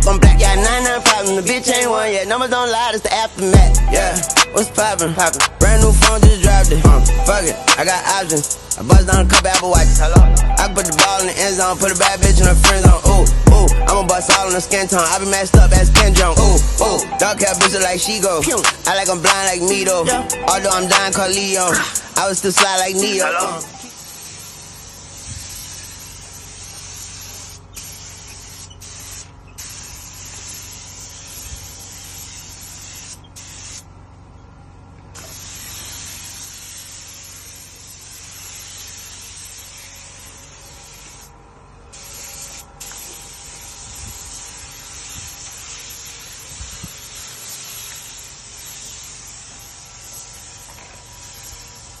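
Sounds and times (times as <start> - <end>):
spray gun hissing: 0.0 - 33.9, 35.2 - 41.3, 41.9 - 52.0.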